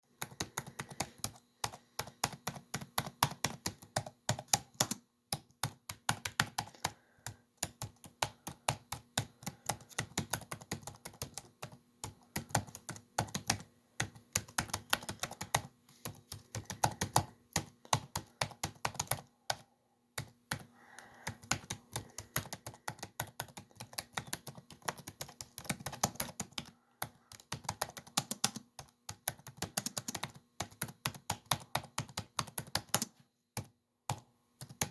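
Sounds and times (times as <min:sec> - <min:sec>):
laptop keyboard typing: 0:00.0 - 0:34.9.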